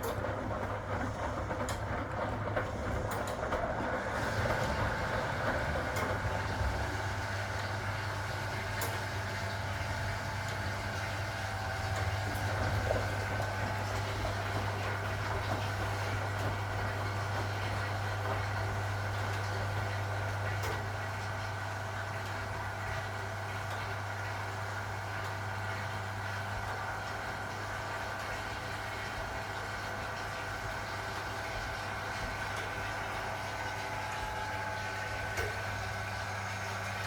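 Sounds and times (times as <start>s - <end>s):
washing machine motor humming: 0.0s - 37.0s.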